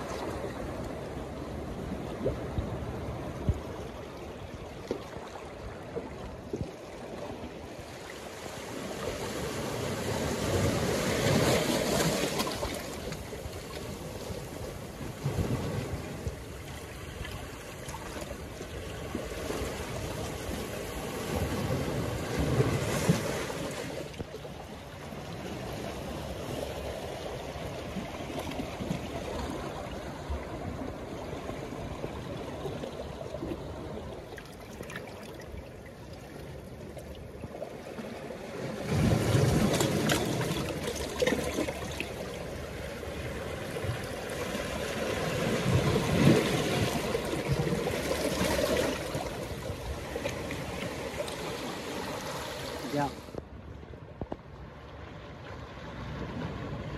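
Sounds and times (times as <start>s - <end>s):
waves breaking among boulders: 0.0s - 56.9s.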